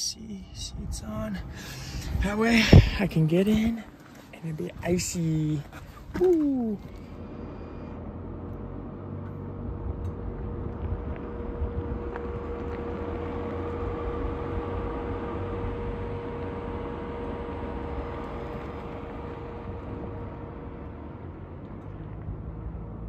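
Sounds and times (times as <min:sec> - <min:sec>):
electric vehicle hum: 0:00.4 - 0:23.0.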